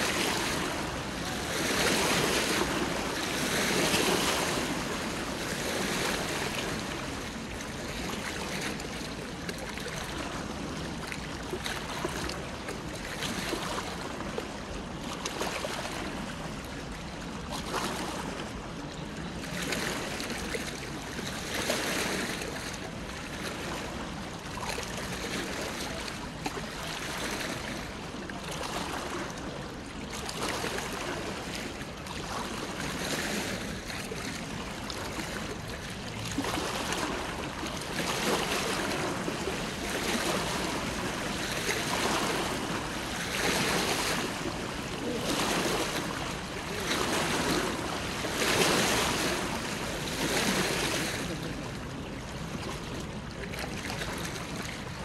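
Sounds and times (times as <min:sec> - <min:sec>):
river water lapping against bank: 0:00.0 - 0:55.0.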